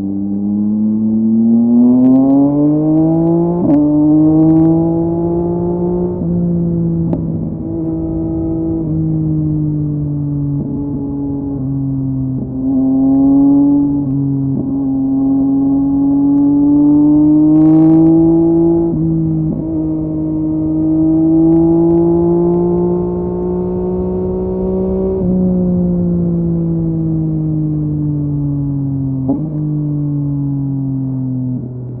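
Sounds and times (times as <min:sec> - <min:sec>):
motorcycle engine while riding: 0:00.0 - 0:32.0.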